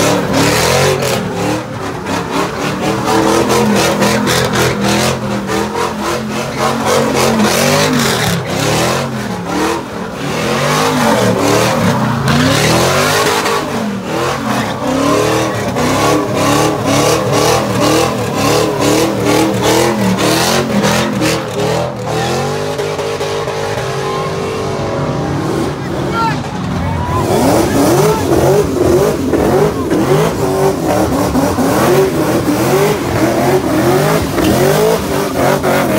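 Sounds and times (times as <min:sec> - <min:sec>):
car engine revving hard: 0:00.0 - 0:35.9.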